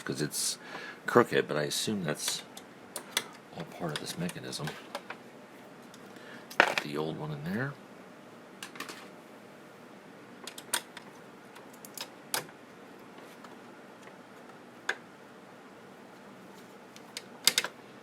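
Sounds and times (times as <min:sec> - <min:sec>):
low steady hiss: 0:00.0 - 0:18.0.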